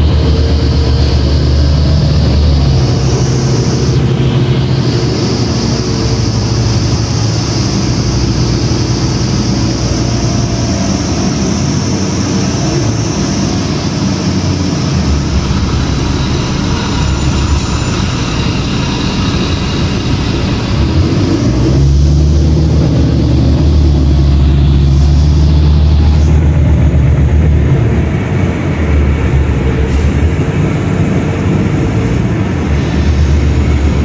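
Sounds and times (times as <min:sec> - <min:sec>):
bus diesel engine drone: 0:00.0 - 0:34.0
road and tyre noise: 0:00.0 - 0:34.0.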